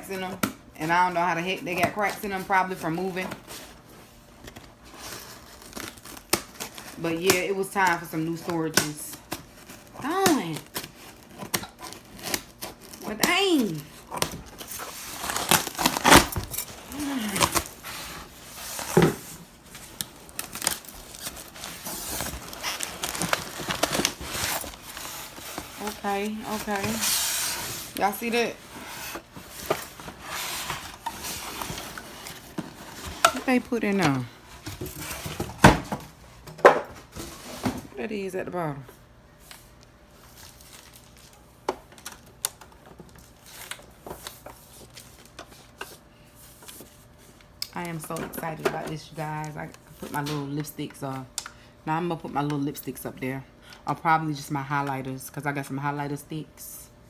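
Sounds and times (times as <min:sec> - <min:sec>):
packaging crinkling and rustling: 0:01.5 - 0:36.4, 0:39.0 - 0:51.5.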